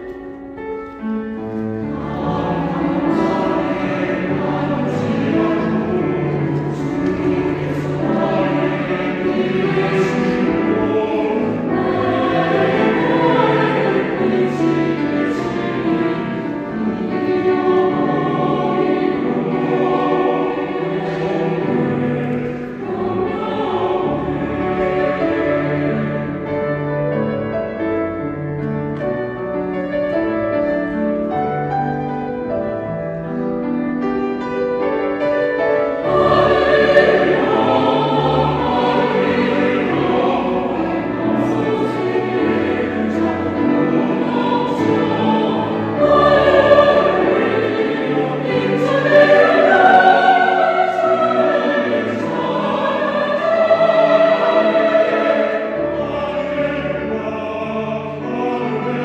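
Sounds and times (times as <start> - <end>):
choir singing: 0.0 - 59.0
grand piano accompaniment: 0.0 - 59.0.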